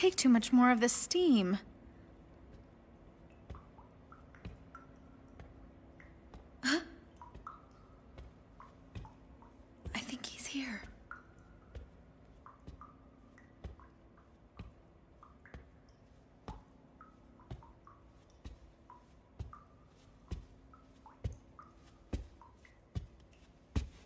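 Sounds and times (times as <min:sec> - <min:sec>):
water drips plinking: 0:00.0 - 0:24.0
slow footsteps: 0:02.3 - 0:24.0.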